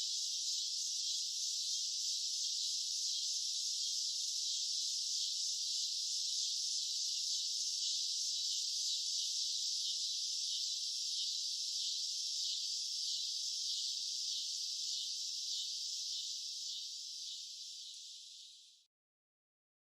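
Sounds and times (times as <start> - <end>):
cicadas buzzing: 0.0 - 18.6.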